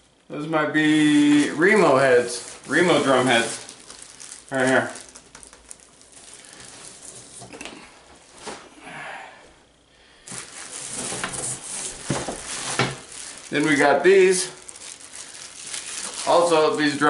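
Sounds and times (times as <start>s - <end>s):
plastic wrapping rustling: 0.8s - 8.6s, 10.2s - 17.0s.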